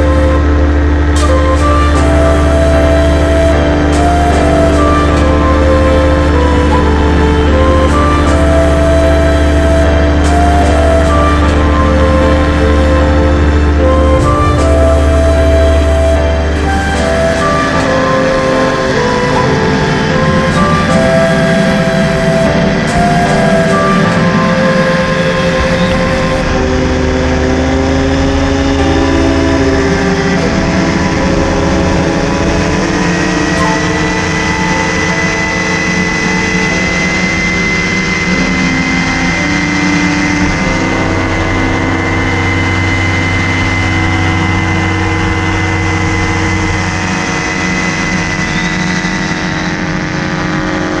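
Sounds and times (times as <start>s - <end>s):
engine and propeller drone: 0.0s - 51.0s.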